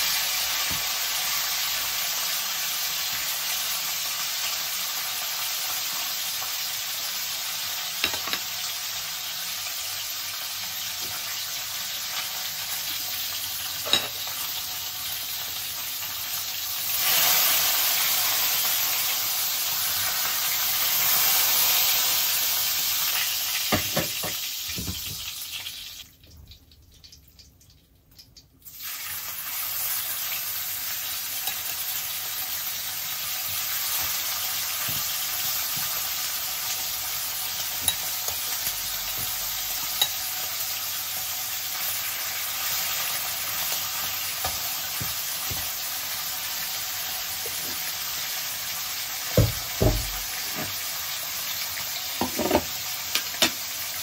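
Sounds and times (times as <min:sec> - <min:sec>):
meat sizzling in a frying pan: 0:00.0 - 0:26.1, 0:28.6 - 0:54.0.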